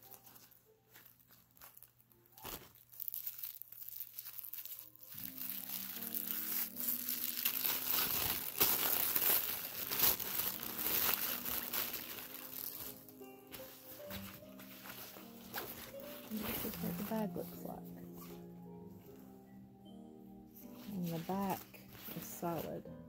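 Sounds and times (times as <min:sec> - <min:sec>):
plastic packaging crinkling: 0:00.0 - 0:18.4, 0:20.8 - 0:22.7
soft background music: 0:00.0 - 0:23.0.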